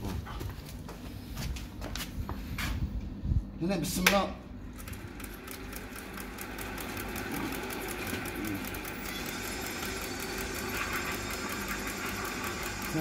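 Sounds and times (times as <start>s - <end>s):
generator mechanical whir: 0.0s - 13.0s.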